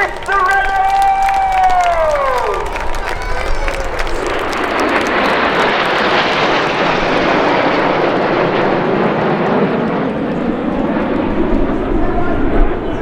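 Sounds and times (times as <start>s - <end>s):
jet aircraft flying past: 1.3s - 13.0s.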